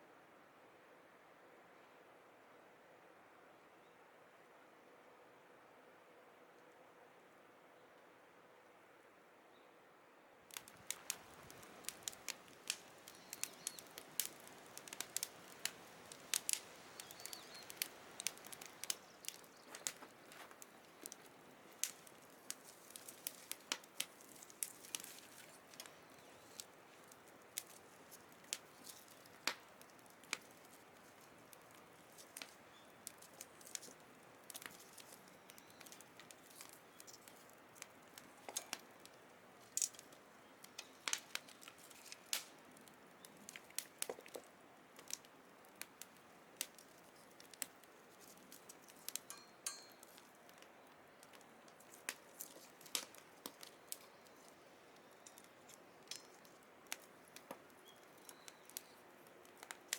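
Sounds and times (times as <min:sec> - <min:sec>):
firewood crackling and popping: 0:10.5 - 0:59.9.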